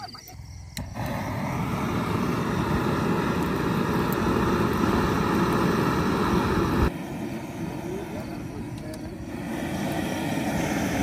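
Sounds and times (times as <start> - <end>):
engine pulsing rumble: 0.0 - 11.0.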